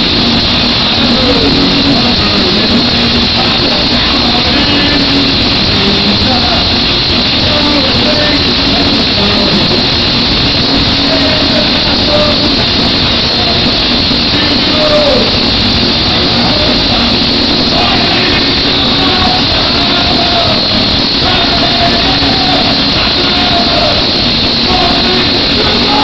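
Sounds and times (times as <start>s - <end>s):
concert crowd cheering: 0.0s - 26.0s
faint voices: 0.0s - 26.0s.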